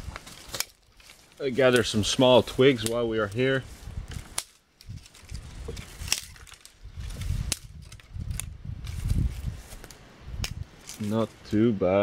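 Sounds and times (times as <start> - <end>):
twigs snapping: 0.0 - 11.4.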